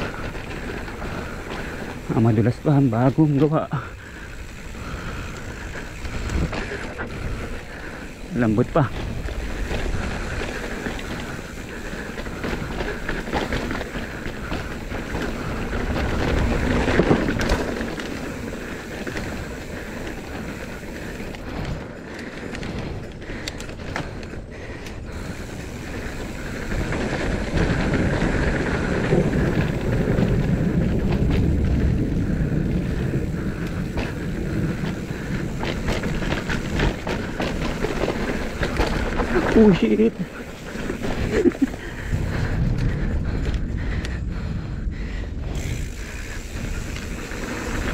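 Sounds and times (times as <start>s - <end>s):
bike chain and suspension rattling: 0.0s - 47.9s
bike tyres on loose dirt: 0.0s - 47.9s
wind rushing over microphone: 0.0s - 47.9s.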